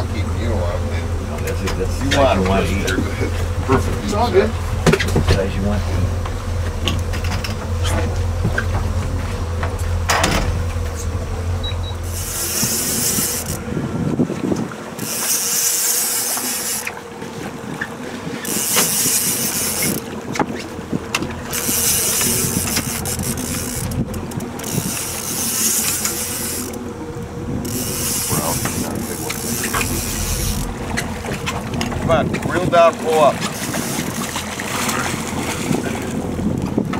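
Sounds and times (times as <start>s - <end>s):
boat motor humming: 0.0s - 36.9s.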